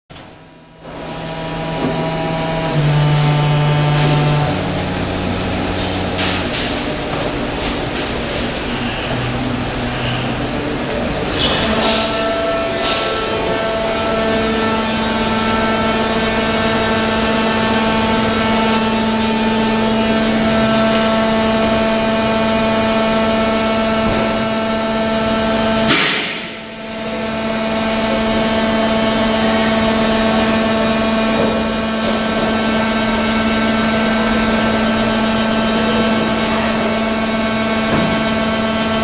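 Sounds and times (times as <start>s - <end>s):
machine hum: 0.1s - 39.0s.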